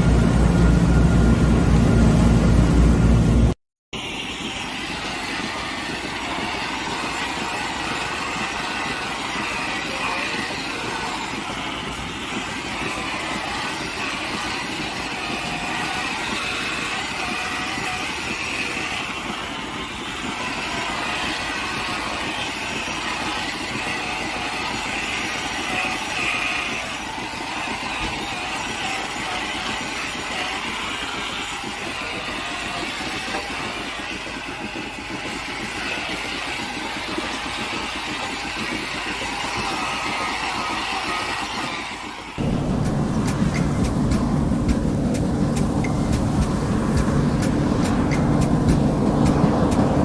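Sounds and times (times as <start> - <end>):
machine running steadily: 0.0 - 50.0.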